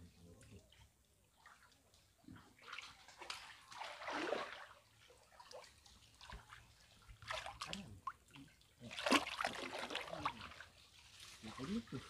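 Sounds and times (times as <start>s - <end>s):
water sloshing and splashing: 0.3s - 12.0s.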